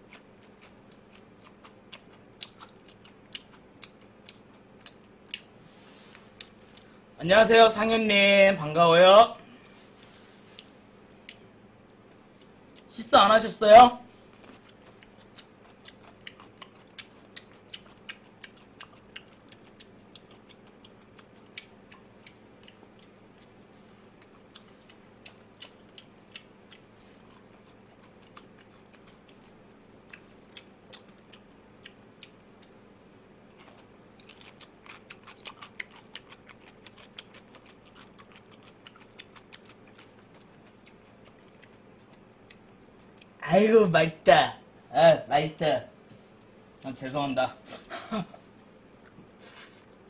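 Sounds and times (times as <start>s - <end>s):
man chewing food: 0.0s - 7.2s, 9.4s - 12.9s, 14.1s - 43.4s, 47.7s - 50.0s.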